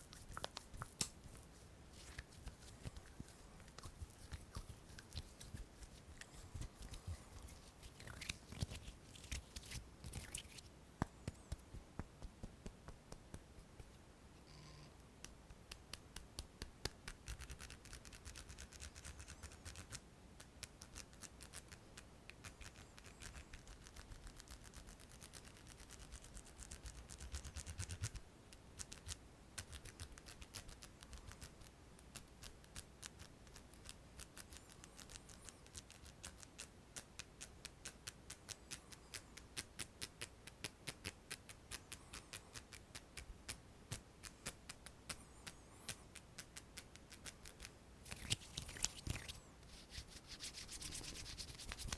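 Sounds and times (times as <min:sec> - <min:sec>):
soft rubbing hiss: 0:00.0 - 0:51.9.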